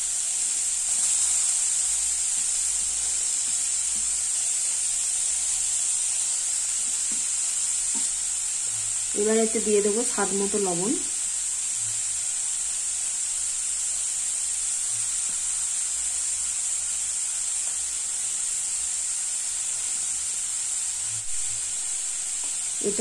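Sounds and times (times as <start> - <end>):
papaya sizzling in hot oil: 0.0 - 23.0.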